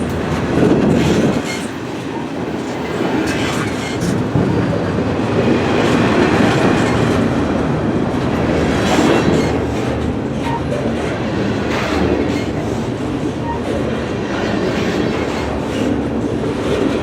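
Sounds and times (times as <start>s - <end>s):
freight train wheels rumbling: 0.0s - 17.0s
wheels clacking at rail joints: 0.0s - 17.0s.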